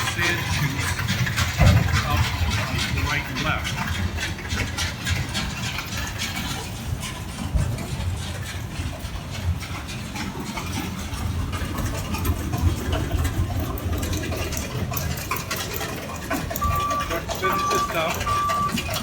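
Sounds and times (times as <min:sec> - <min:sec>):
conveyor machinery drone: 0:00.0 - 0:19.0.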